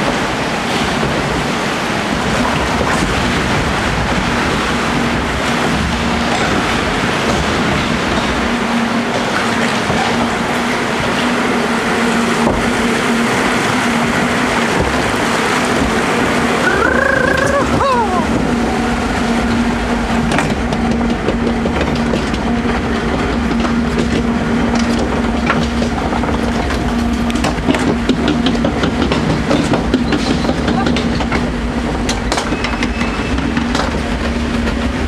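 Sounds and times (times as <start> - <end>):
water rushing around boat: 0.0 - 35.0.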